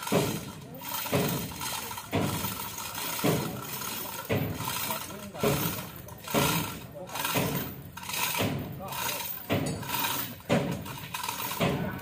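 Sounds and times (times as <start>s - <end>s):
chain clanking: 0.0s - 12.0s.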